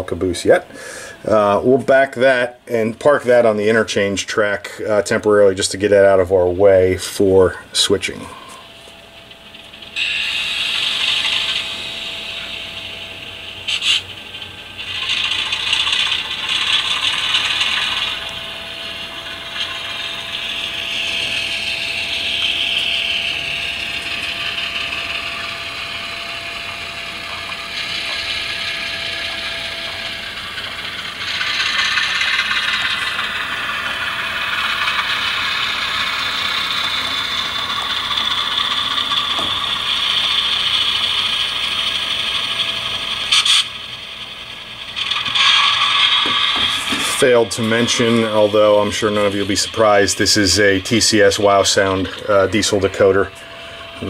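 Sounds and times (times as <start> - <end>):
diesel engine sound from small speaker: 0.0 - 54.0
model train motor whir and clicking: 9.2 - 54.0.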